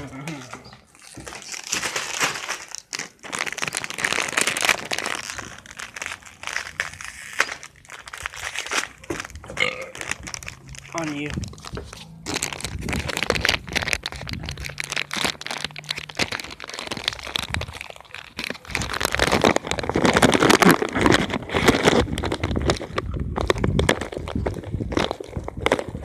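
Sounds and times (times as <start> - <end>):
chip bag crinkling: 0.0 - 26.0
crunching: 0.0 - 26.0.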